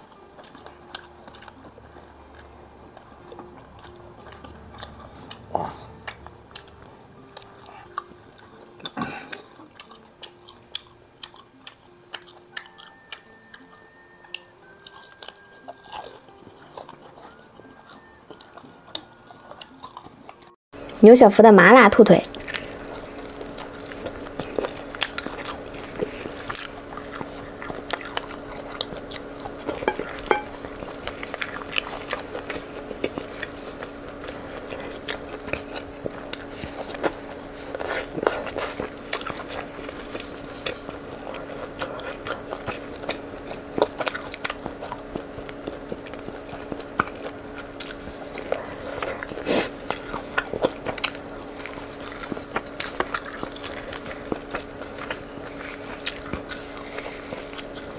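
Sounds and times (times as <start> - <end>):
steady hum: 0.0 - 11.5, 19.3 - 57.9
wet chewing and biting: 0.0 - 20.6, 22.2 - 57.9.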